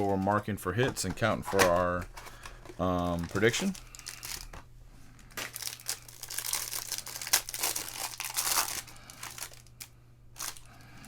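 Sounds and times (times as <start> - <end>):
card packaging crinkling and tearing: 0.0 - 4.6, 5.3 - 10.8.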